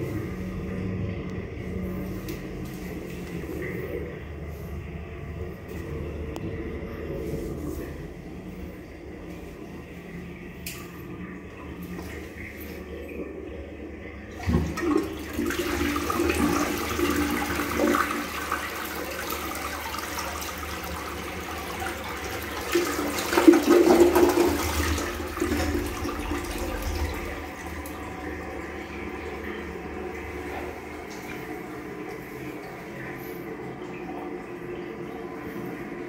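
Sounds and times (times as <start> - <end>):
toilet flushing: 0.0 - 36.0.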